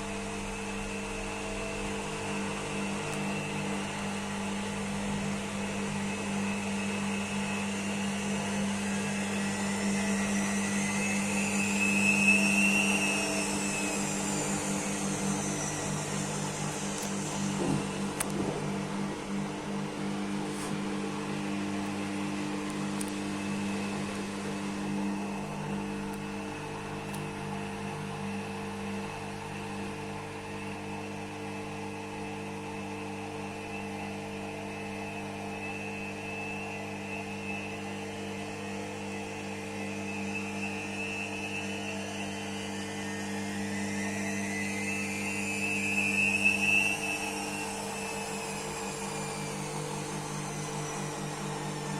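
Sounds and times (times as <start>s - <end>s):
washing machine spinning: 0.0s - 51.9s.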